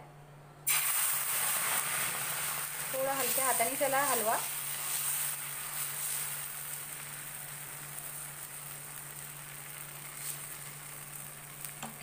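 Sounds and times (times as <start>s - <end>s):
batter sizzling on griddle: 0.7s - 12.0s.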